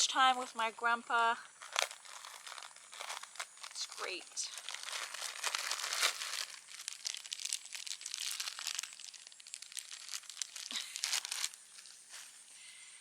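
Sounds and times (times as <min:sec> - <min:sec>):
plastic bags crinkling: 0:01.4 - 0:12.4.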